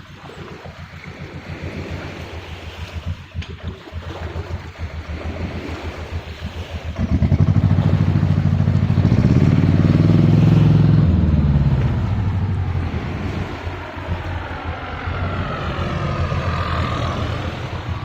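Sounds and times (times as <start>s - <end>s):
engine passing by: 0.0s - 18.0s
gusty wind rumble: 0.0s - 18.0s.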